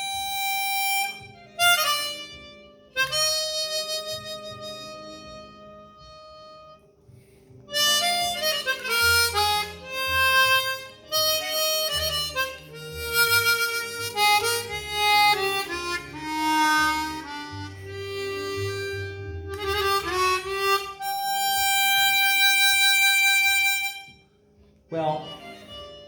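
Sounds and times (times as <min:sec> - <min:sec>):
harmonica playing slow melody: 0:00.0 - 0:26.0.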